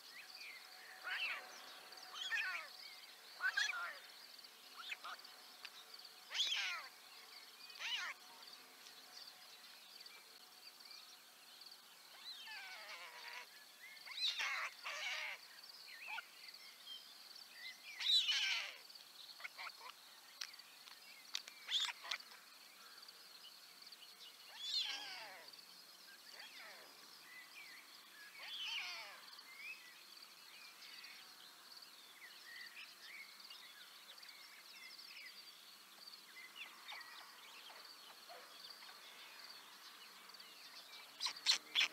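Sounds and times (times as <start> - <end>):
bird chirps: 0.0 - 11.1, 12.1 - 22.5, 24.0 - 31.4, 36.3 - 41.9.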